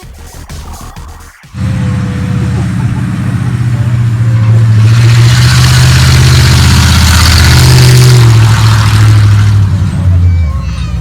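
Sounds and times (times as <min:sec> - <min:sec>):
broad rush of noise: 0:00.0 - 0:11.0
heavy vehicle engine drone: 0:01.5 - 0:11.0.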